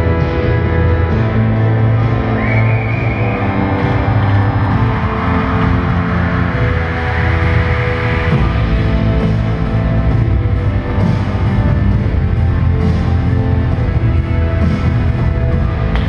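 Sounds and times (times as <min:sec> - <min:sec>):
loud bass-heavy music: 0:00.0 - 0:16.0.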